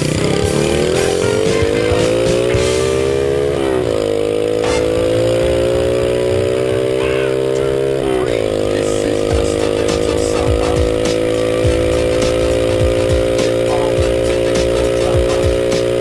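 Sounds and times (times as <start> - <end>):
motorbike engine accelerating: 0.0 - 16.0.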